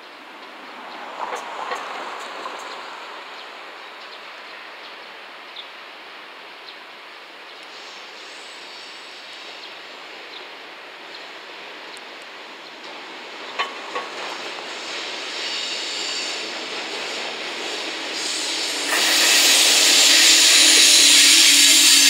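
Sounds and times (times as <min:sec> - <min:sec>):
train wheels on rail: 0:00.0 - 0:22.0.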